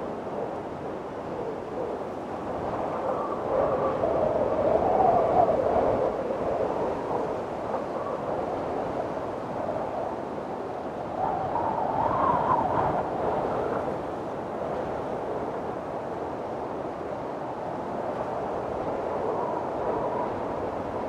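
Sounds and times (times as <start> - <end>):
strong wind blowing: 0.0 - 21.0.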